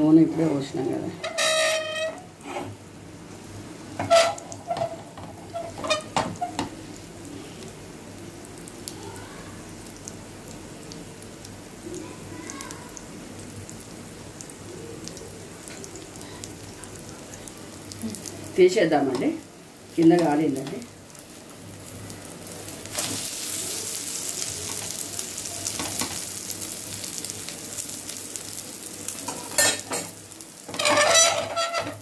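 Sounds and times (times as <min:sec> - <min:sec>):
omelet sizzling on griddle: 0:00.0 - 0:32.0.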